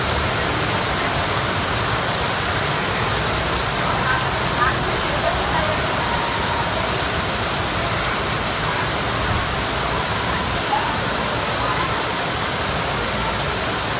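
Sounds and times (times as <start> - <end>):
rain pouring on rooftops: 0.0 - 13.9.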